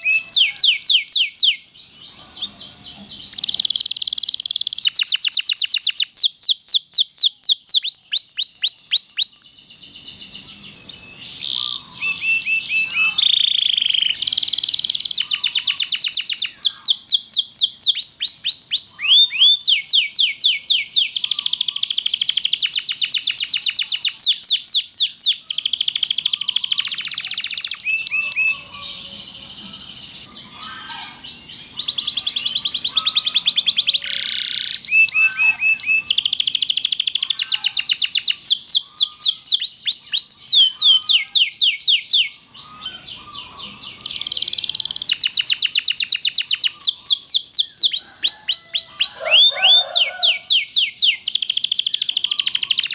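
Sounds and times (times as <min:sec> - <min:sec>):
canary singing trilling phrases: 0:00.0 - 0:52.9.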